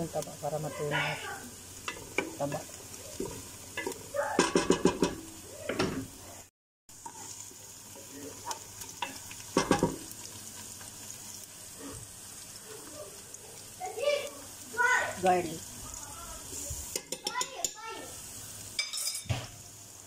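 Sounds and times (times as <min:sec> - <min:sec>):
onion and fat sizzling: 0:00.0 - 0:20.0.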